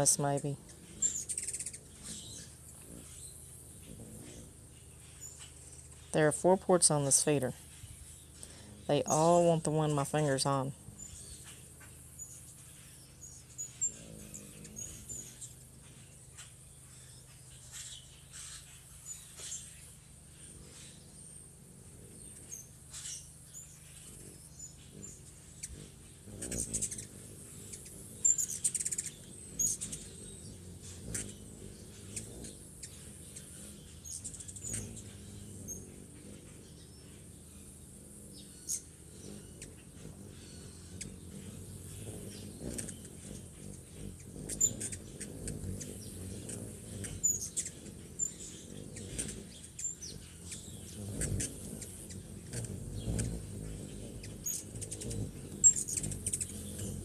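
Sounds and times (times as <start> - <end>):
hummingbird chirping: 0.0 - 57.0
hummingbird wings humming: 0.0 - 57.0.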